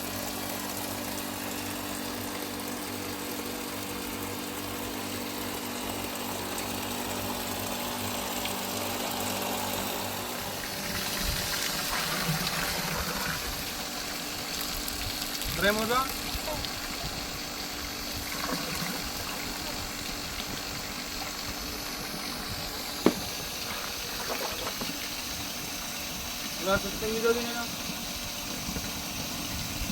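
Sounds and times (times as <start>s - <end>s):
motor humming: 0.0s - 29.9s
hiss of running water: 4.7s - 29.9s.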